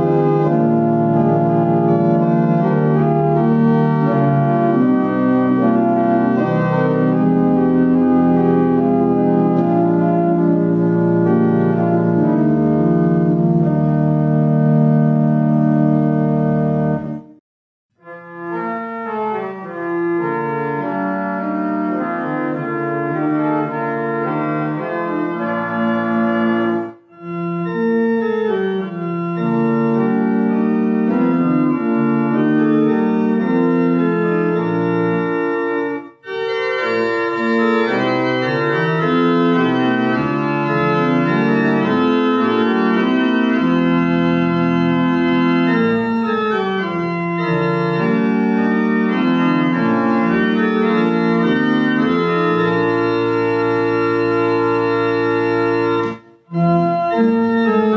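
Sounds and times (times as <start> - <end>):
organ music: 0.0 - 17.4, 18.0 - 57.9.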